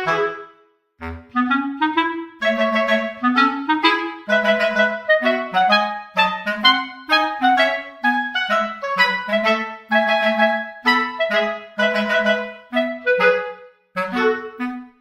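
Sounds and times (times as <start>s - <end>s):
background music melody: 0.0s - 15.0s.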